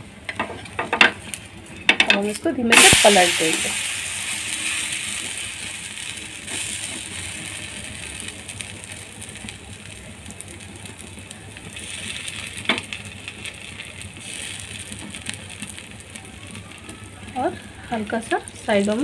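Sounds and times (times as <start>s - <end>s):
pancake sizzling in oil: 0.5s - 19.0s.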